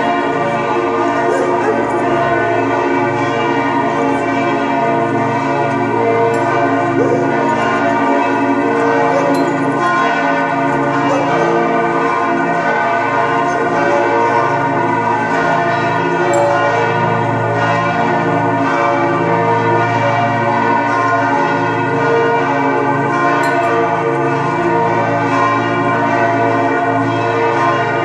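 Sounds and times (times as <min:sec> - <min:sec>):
church bells pealing: 0:00.0 - 0:28.0.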